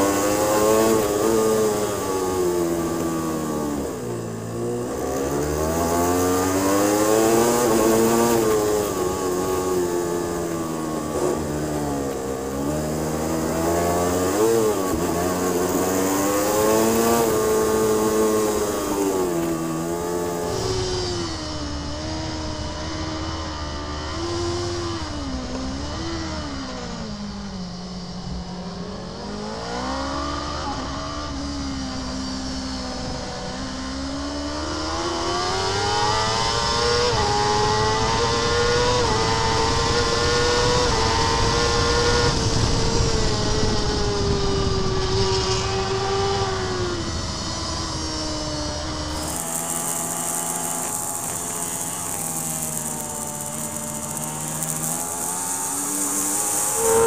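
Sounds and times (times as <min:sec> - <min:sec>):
motorcycle engine at racing speed: 0:00.0 - 0:57.0.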